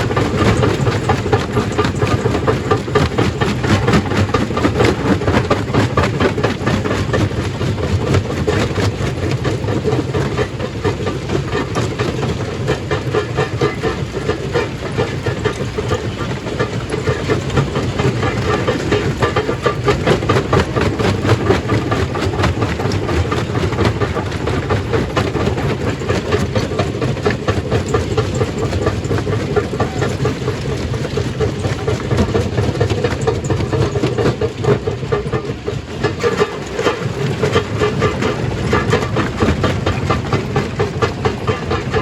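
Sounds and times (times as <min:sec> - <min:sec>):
low mechanical rumble: 0:00.0 - 0:42.0.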